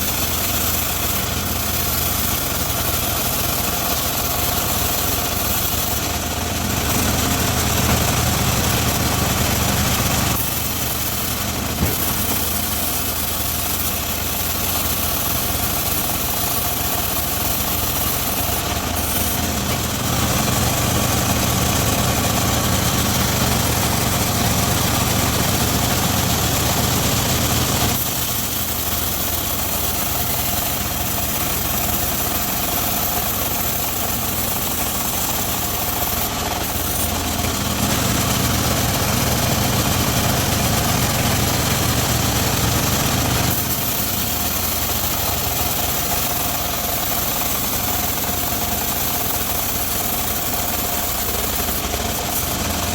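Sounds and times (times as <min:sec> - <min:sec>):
engine-driven sawmill humming: 0:00.0 - 0:52.9.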